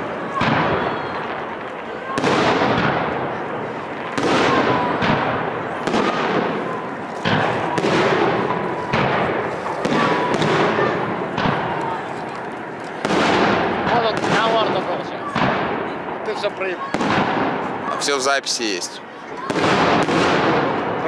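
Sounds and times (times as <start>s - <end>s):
firework crackle: 0.0s - 21.0s.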